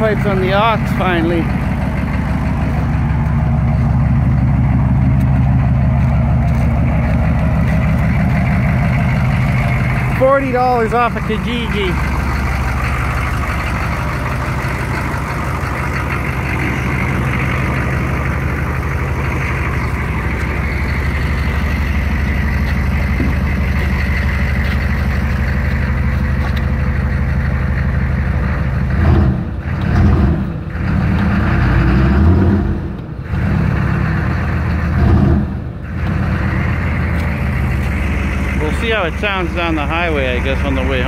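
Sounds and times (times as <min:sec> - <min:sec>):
diesel engine idling and revving: 0:00.0 - 0:41.0.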